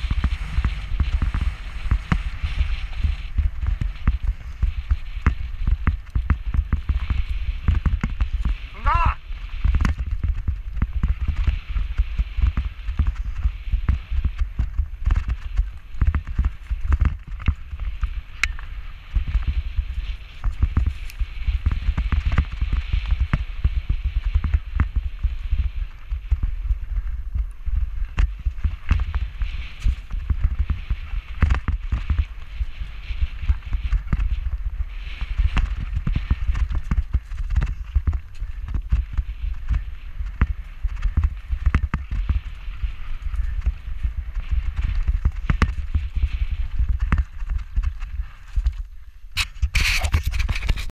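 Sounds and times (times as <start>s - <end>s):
mountain bike rattling on gravel: 0.0s - 50.9s
wind buffeting microphone: 0.0s - 50.9s.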